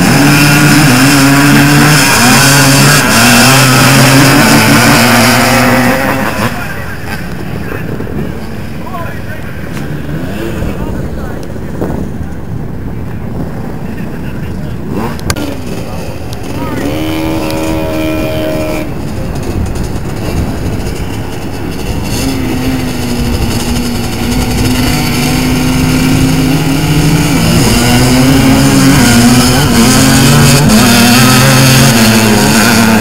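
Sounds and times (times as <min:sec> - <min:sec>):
three-wheeler engines revving: 0:00.0 - 0:33.0.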